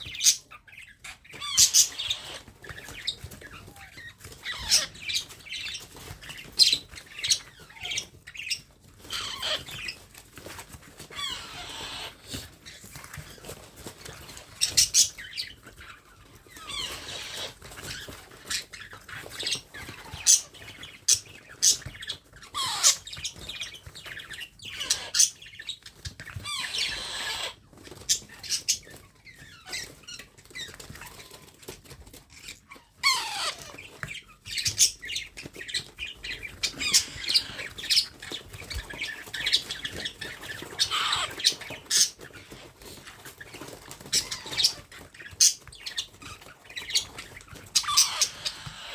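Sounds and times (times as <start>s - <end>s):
baby parrot squawking: 0.0s - 10.0s, 11.0s - 13.0s, 14.5s - 30.0s, 32.4s - 42.6s, 43.6s - 48.9s.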